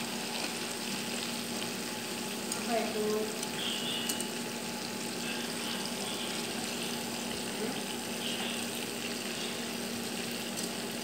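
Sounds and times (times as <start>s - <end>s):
oil sizzling while deep-frying: 0.0s - 11.0s.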